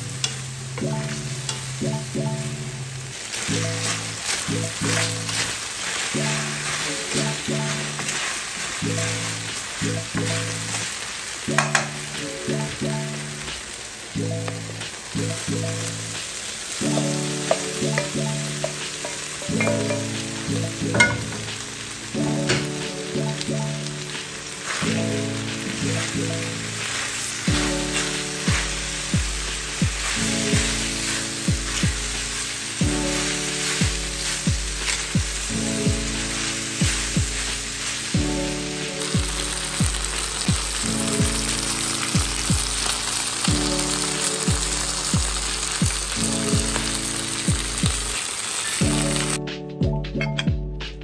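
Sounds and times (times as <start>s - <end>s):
food sizzling in a pan: 0.0s - 49.4s
background music of held notes: 0.0s - 51.0s.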